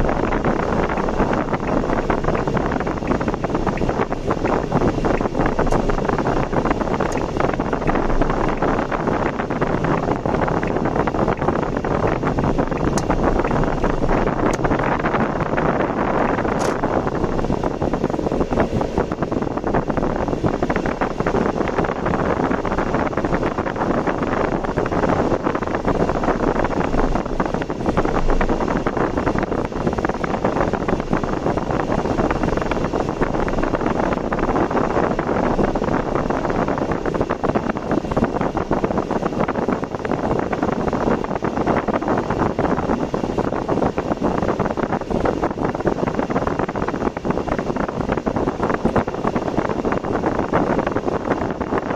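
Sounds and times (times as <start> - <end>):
car road and wind noise: 0.0 - 51.9.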